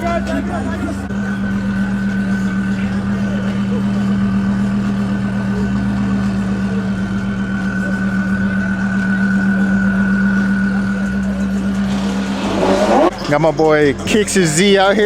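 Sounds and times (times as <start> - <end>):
car engine at steady revs: 0.0 - 13.6.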